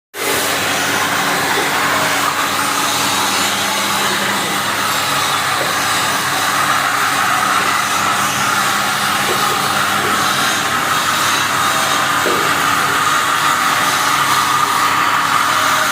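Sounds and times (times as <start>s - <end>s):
wood sanding machine running: 0.2s - 15.9s.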